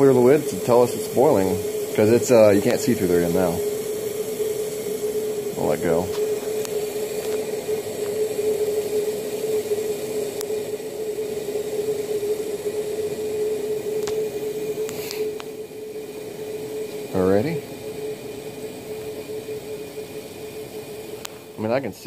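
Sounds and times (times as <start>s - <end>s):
gas stove hissing: 0.0s - 22.0s.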